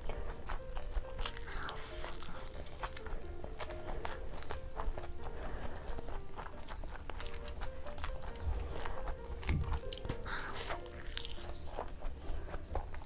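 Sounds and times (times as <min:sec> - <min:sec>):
crunchy chewing: 0:00.0 - 0:13.0
soft background music: 0:00.0 - 0:13.0.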